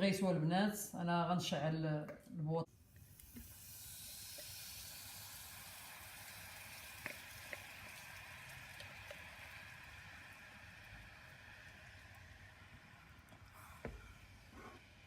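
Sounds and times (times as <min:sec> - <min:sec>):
gas burner hissing: 0:02.8 - 0:15.0.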